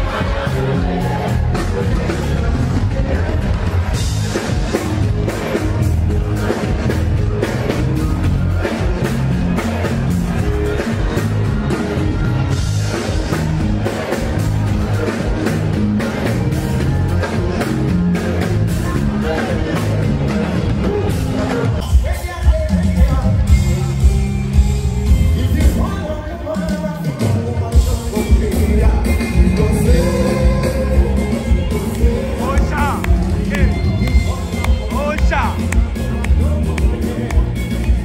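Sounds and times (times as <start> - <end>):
afrobeats song through sound system: 0.0 - 38.0.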